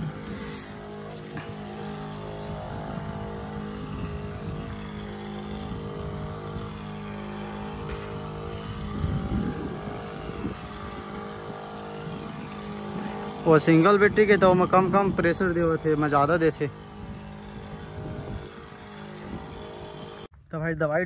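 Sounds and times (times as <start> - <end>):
nozzle hissing spray: 0.0 - 20.3
sprayer pump humming: 0.0 - 20.3.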